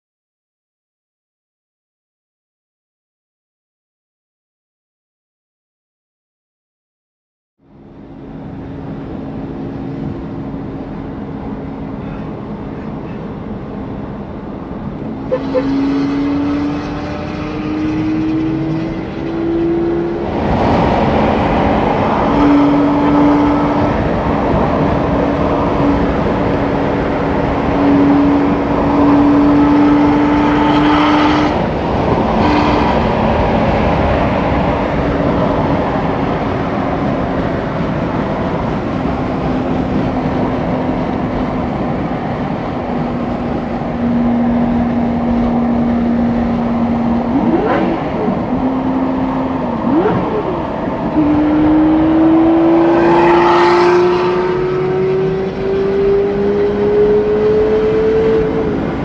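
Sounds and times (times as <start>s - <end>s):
car engine drone: 7.6s - 59.0s
wind and road noise: 7.6s - 59.0s.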